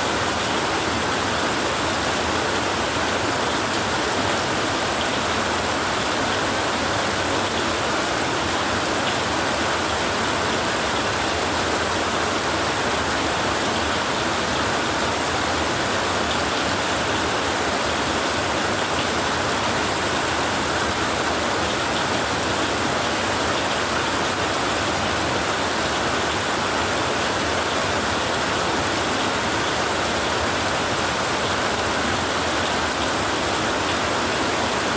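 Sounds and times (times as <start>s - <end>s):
heavy rain on a tin roof: 0.0s - 34.9s.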